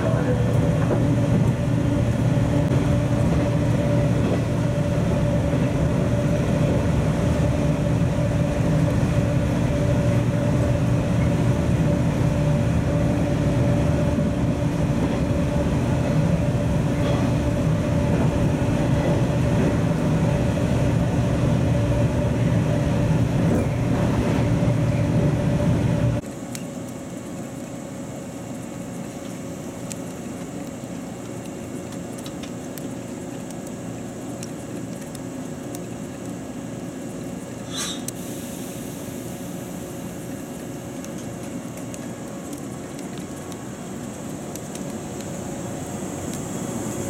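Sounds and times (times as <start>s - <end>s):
wheels rumbling on rails: 0.0s - 37.9s, 38.5s - 47.0s
electric train hum: 0.0s - 47.0s.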